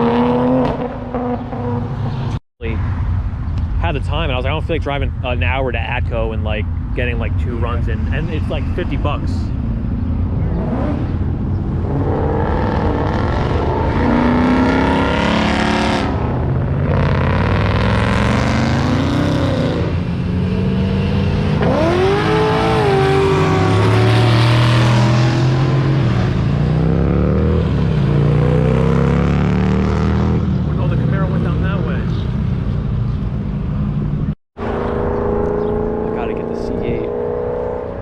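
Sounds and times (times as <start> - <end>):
car engines revving past: 6.8 - 34.0, 34.6 - 38.0.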